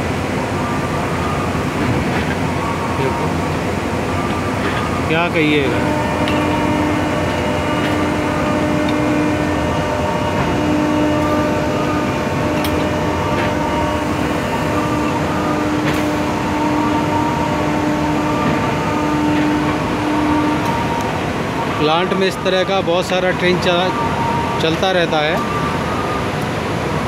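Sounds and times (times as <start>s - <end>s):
freight train rolling past: 0.0s - 27.0s
industrial hum: 0.0s - 27.0s.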